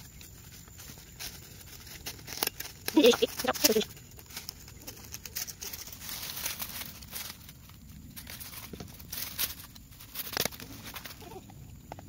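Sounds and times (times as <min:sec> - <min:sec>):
dry leaves crackling and rustling: 0:00.0 - 0:11.6.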